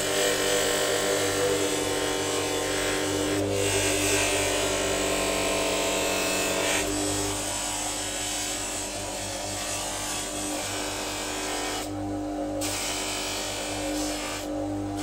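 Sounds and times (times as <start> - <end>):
bench grinder motor hum: 0.0 - 15.0.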